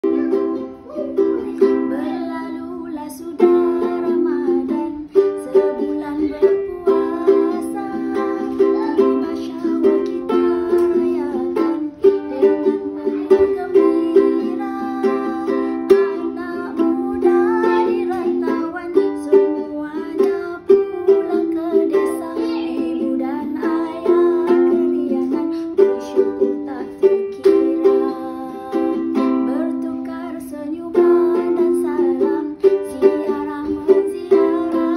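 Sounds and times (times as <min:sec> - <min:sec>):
ukulele strumming chords: 0:00.0 - 0:34.9.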